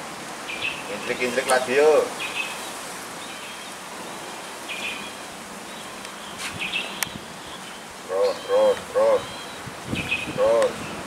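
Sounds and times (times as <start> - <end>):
insects buzzing: 0.0 - 11.0
steady hiss: 0.0 - 11.0.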